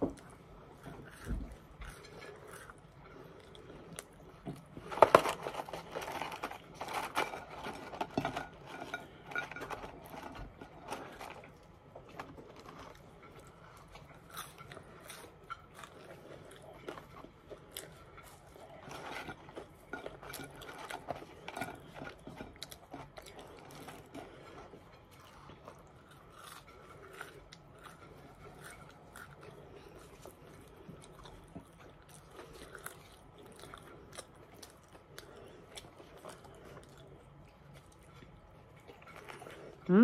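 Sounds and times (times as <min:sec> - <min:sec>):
person chewing crunchy fries: 0:00.0 - 0:40.0.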